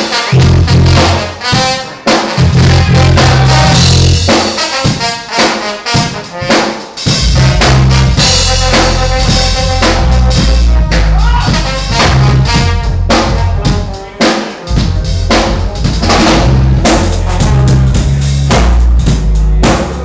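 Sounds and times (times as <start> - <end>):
bass line: 0.0 - 1.7, 2.4 - 4.6, 7.1 - 20.0
drum kit groove: 0.0 - 20.0
live band music: 0.0 - 20.0.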